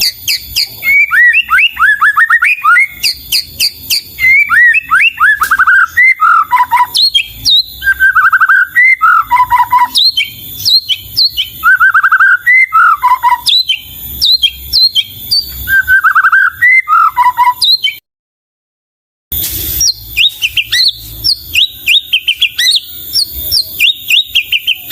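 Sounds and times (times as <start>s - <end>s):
bird singing whistled phrases: 0.0s - 18.0s, 19.7s - 24.9s.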